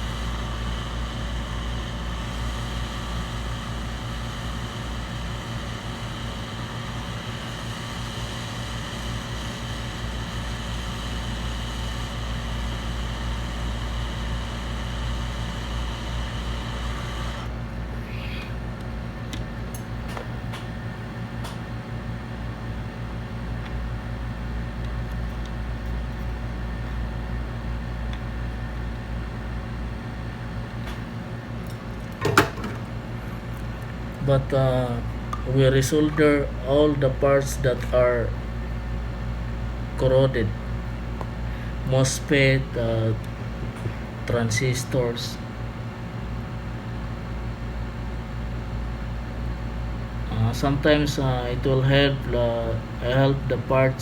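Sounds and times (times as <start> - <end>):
fan motor hum: 0.0 - 54.0.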